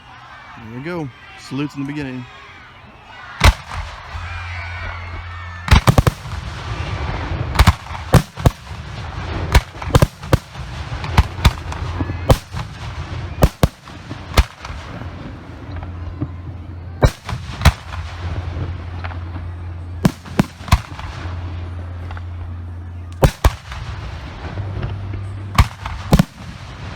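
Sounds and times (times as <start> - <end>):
fireworks banging: 3.2 - 26.9
steady low hum: 3.6 - 26.9.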